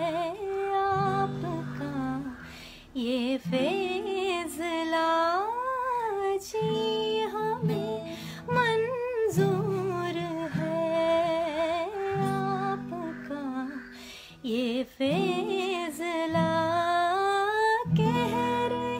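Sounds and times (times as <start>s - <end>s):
acoustic guitar chords: 0.0s - 13.9s, 14.6s - 18.9s
woman singing slow melody: 0.0s - 18.9s.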